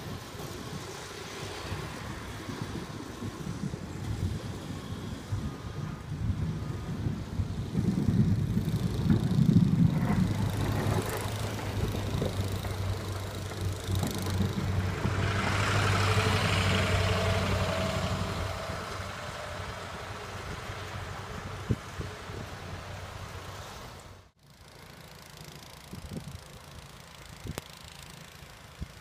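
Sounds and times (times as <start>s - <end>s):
truck engine hum: 0.0s - 29.0s.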